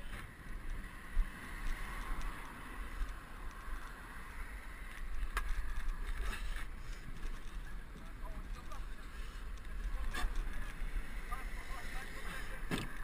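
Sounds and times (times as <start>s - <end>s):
low rumble of travel: 0.0s - 13.0s.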